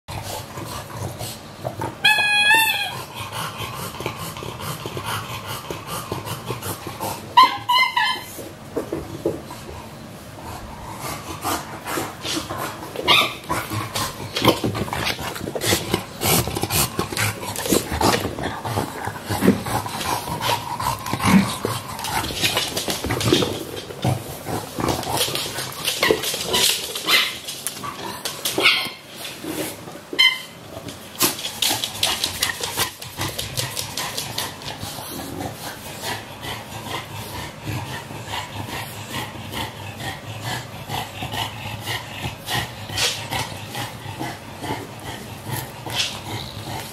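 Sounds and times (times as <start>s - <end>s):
paws on floor mats: 3.3s - 46.9s.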